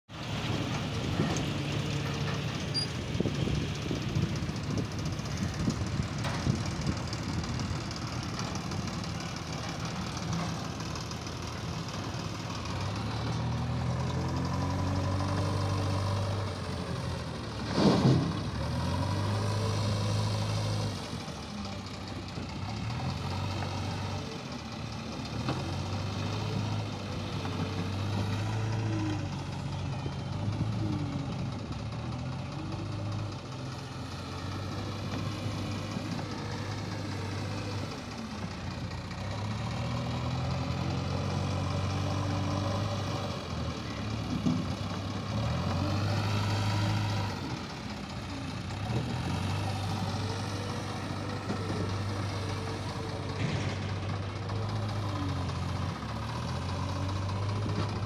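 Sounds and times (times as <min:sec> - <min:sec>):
diesel engines running: 0:00.1 - 0:58.0.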